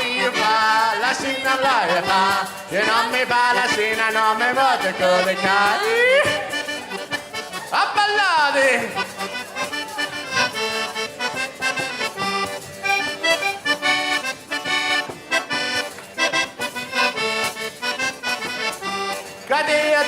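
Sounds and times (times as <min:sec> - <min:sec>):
accordion playing rhythmic chords: 0:00.0 - 0:20.0.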